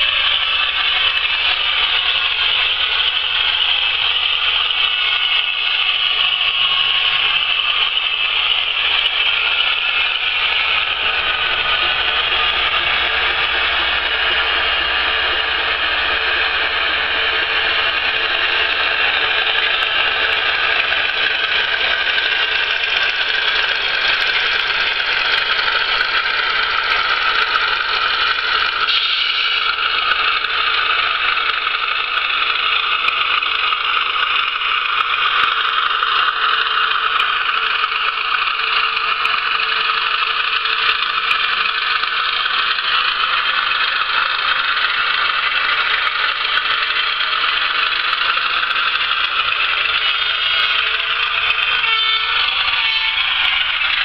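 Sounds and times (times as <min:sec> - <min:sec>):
diesel engine sound from small speaker: 0:00.0 - 0:54.0.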